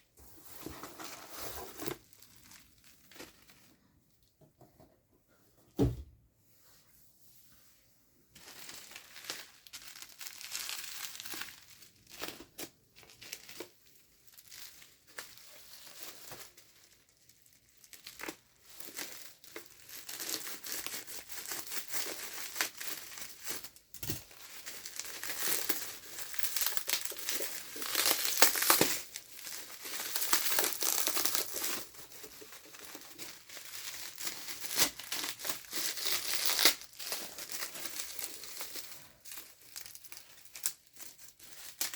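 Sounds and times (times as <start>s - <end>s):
packaging crinkling and tearing: 0.7s - 3.8s, 8.4s - 41.9s.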